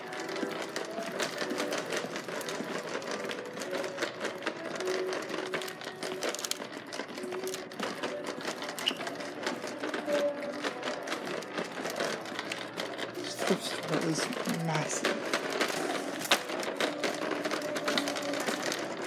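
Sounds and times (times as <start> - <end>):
vacuum cleaner rattling on floor: 0.0 - 19.0.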